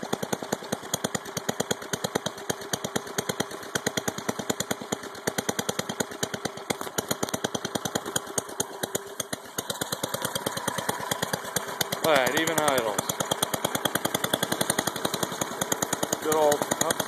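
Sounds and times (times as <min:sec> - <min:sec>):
snow thrower engine putter: 0:00.0 - 0:17.0.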